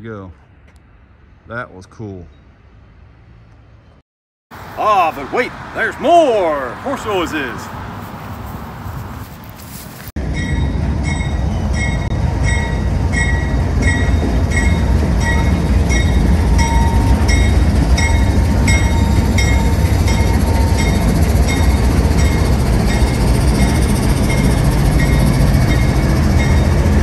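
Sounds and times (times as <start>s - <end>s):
freight train rumbling past: 4.6s - 9.5s, 10.2s - 27.0s.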